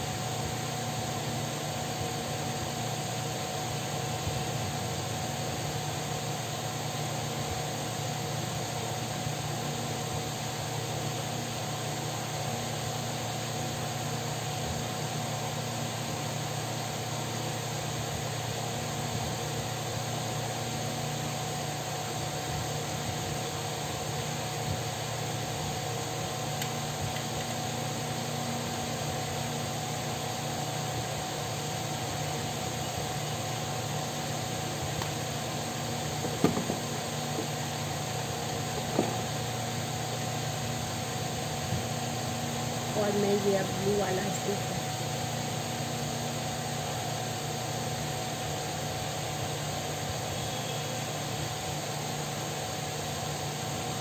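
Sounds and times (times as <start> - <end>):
electric fan whirring: 0.0 - 54.0.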